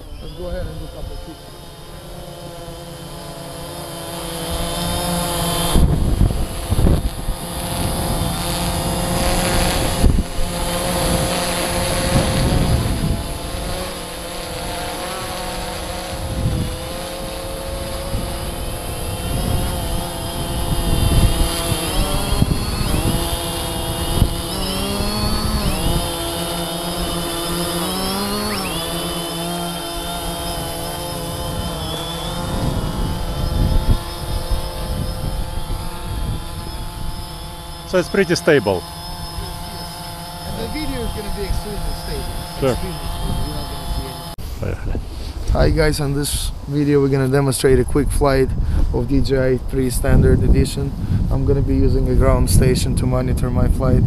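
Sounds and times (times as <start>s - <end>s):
drone propellers whining: 0.0s - 45.6s
wind buffeting microphone: 4.5s - 13.9s, 14.5s - 54.0s.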